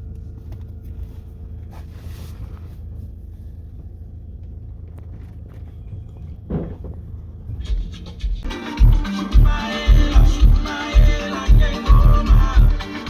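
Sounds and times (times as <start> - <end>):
car rumble: 0.0 - 12.9.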